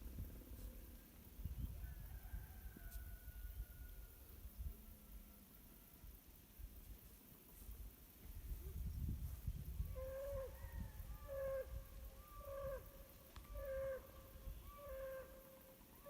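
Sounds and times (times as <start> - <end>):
low rumble of wind: 0.0 - 7.0, 7.7 - 15.0.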